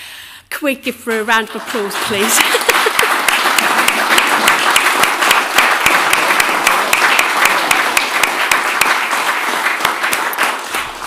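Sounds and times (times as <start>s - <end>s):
audience applause: 1.6s - 11.0s
close sharp hand claps: 1.6s - 11.0s.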